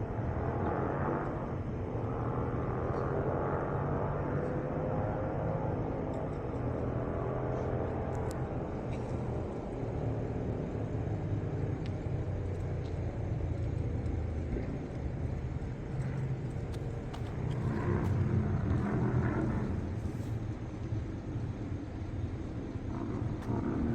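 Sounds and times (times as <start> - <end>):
low rumble of motor vehicles: 0.0 - 23.9.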